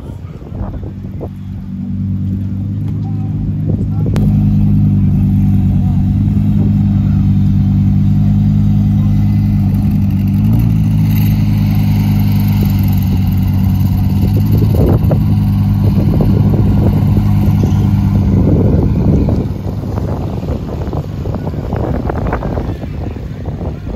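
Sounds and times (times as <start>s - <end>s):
exhaust crackles: 0.0s - 23.9s
sports car engine running: 0.0s - 23.9s.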